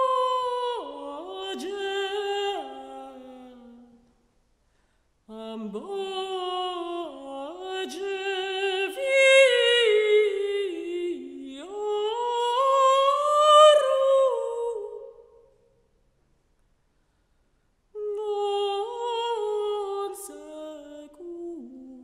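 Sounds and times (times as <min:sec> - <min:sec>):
woman singing with vibrato: 0:00.0 - 0:04.0, 0:05.3 - 0:15.4, 0:18.0 - 0:22.0.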